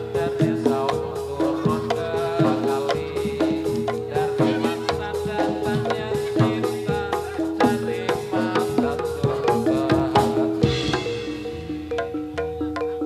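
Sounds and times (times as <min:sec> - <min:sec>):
drum strokes: 0:00.0 - 0:13.0
metallophones ringing: 0:00.0 - 0:13.0.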